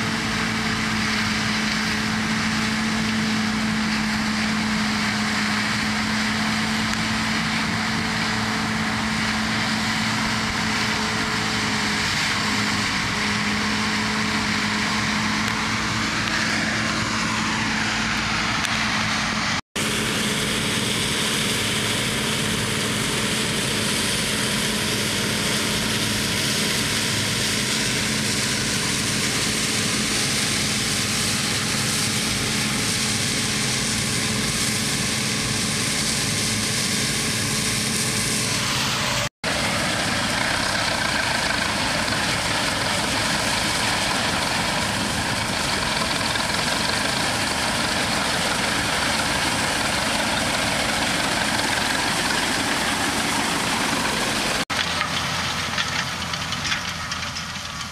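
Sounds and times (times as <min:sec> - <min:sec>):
combine harvester droning: 0:00.0 - 0:57.9
grain auger unloading: 0:00.0 - 0:57.9.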